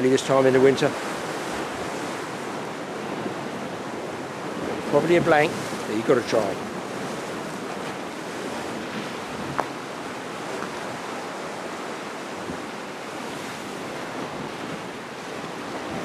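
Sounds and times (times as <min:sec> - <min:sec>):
surf breaking against rocks: 0:00.0 - 0:16.0
wind buffeting microphone: 0:00.0 - 0:16.0.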